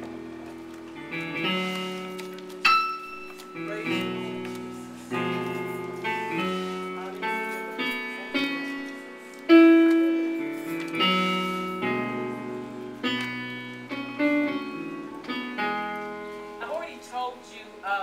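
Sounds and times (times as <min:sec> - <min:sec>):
slow keyboard chords: 0:00.0 - 0:18.0.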